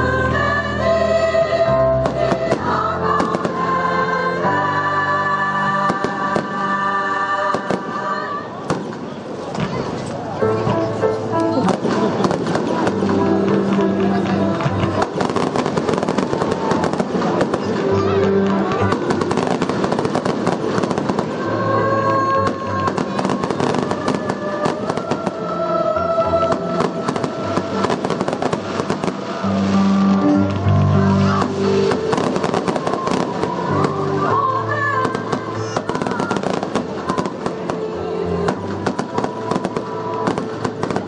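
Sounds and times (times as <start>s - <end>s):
choral music: 0.0s - 9.4s, 10.2s - 41.0s
fireworks bursting and crackling: 2.0s - 10.8s, 11.4s - 41.0s.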